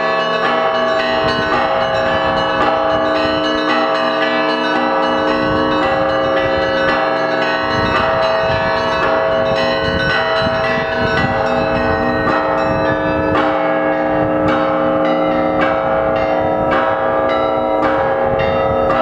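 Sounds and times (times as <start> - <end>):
deep strokes of big bells: 0.0 - 19.0.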